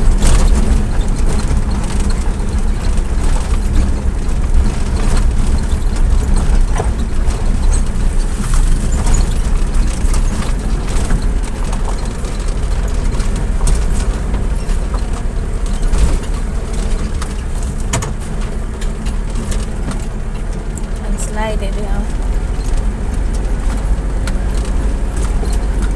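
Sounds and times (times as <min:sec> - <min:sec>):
engine and road rumble: 0:00.0 - 0:25.9
rattles and clicks: 0:00.0 - 0:25.9.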